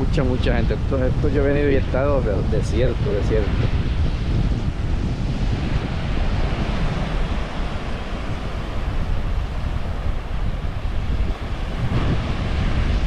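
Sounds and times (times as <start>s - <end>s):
wind buffeting microphone: 0.0s - 13.0s
small surf washing up beach: 1.6s - 13.0s.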